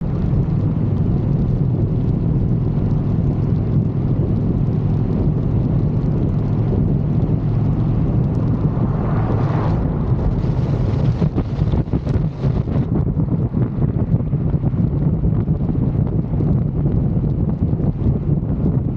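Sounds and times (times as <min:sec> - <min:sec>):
motorcycle engine running: 0:00.0 - 0:18.9
wind noise on microphone: 0:00.0 - 0:18.9.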